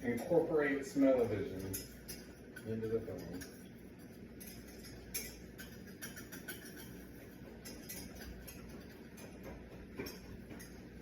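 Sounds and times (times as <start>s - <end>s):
utensil clinking against pan: 0.0s - 10.8s
faint steady background noise: 0.0s - 11.0s.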